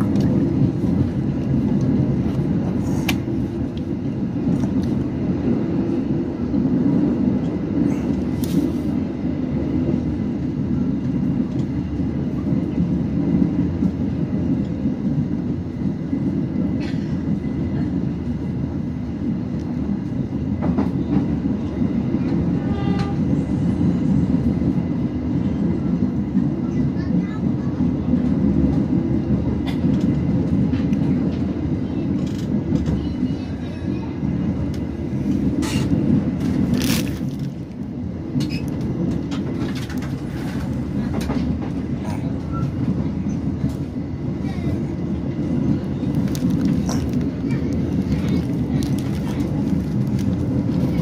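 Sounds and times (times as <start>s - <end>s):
train rumbling on rails: 0.0s - 51.0s.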